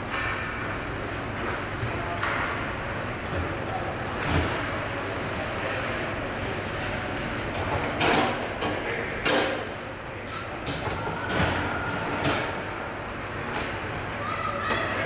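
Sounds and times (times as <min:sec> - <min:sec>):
faint indistinct voices: 0:01.6 - 0:15.0.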